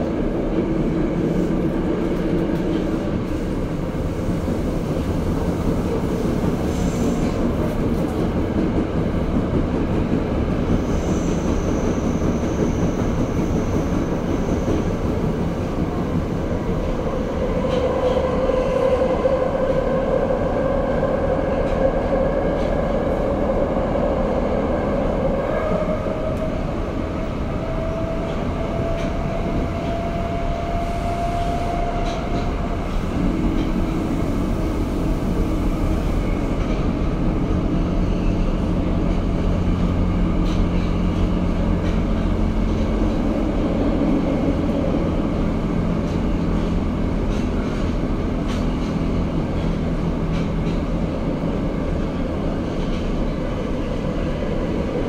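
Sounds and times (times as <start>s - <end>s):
subway car wheels rumbling: 0.0s - 55.0s
train drive whine: 0.0s - 55.0s.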